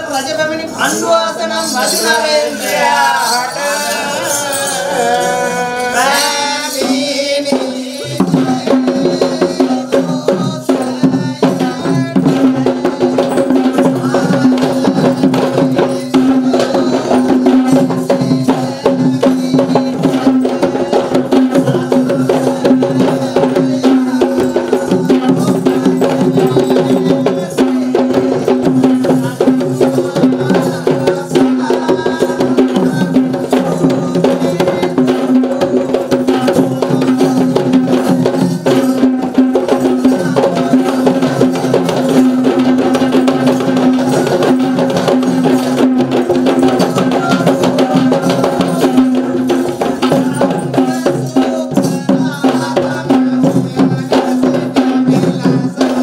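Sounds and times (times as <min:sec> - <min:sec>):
chanted verse: 0:00.0 - 0:56.0
drums playing fast rhythms: 0:00.0 - 0:56.0.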